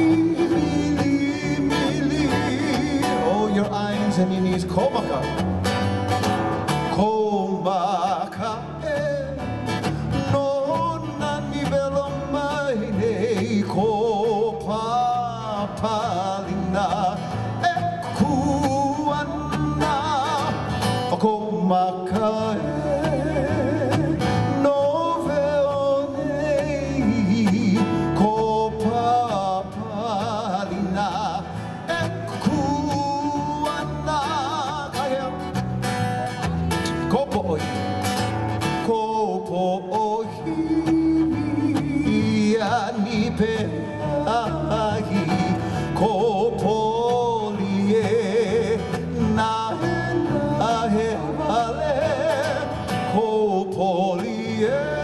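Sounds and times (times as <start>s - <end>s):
person singing with vibrato: 0.0s - 5.4s, 6.7s - 36.0s, 36.7s - 55.0s
strummed acoustic guitar: 0.0s - 55.0s.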